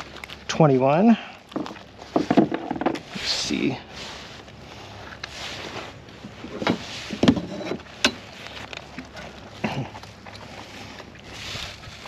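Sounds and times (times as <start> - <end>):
rustling: 1.6 - 12.0.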